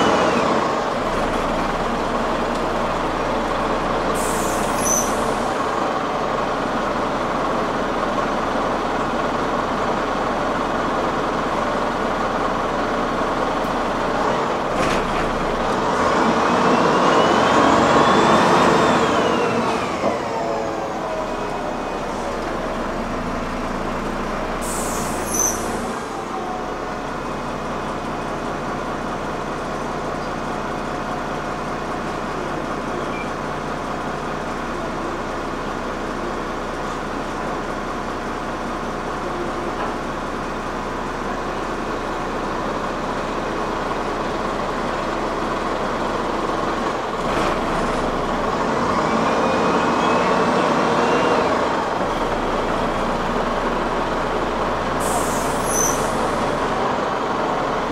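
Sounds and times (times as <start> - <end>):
bus engine and road noise: 0.0 - 57.9.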